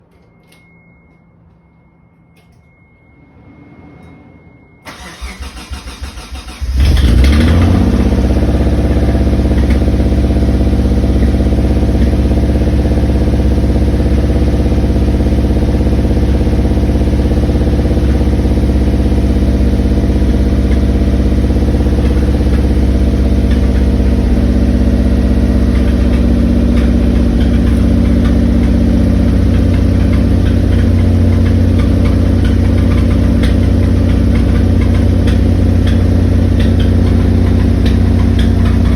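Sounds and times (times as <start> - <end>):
car engine cranking and idling: 4.8 - 38.9.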